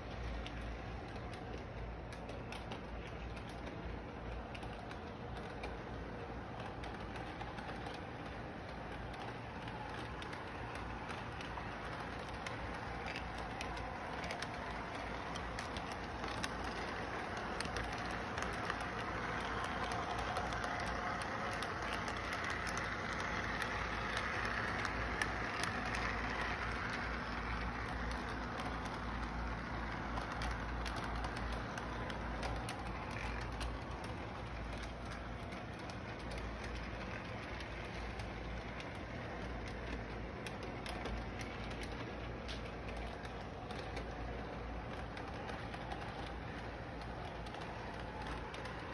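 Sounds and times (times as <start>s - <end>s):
faint track clicks: 0.0s - 48.9s
model train rolling rumble: 0.0s - 48.9s.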